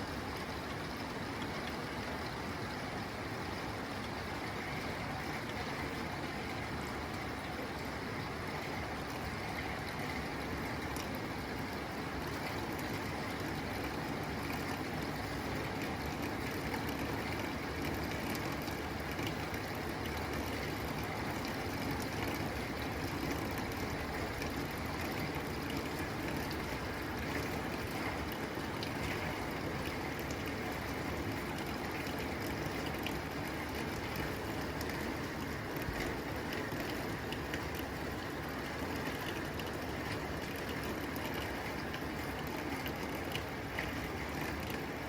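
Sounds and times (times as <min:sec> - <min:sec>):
rain on a tin roof: 0:00.0 - 0:45.0.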